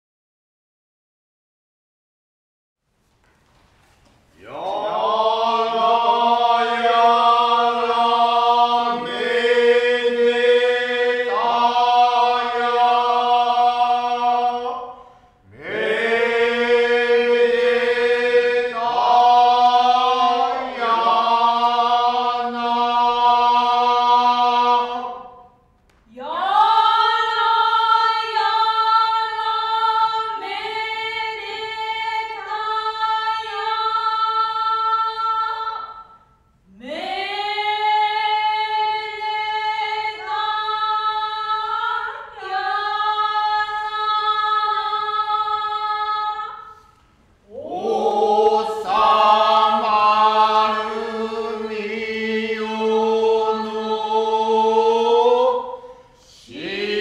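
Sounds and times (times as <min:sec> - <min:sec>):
chorus chanting in unison: 0:04.4 - 0:25.6, 0:26.2 - 0:36.1, 0:36.7 - 0:46.8, 0:47.4 - 0:57.0.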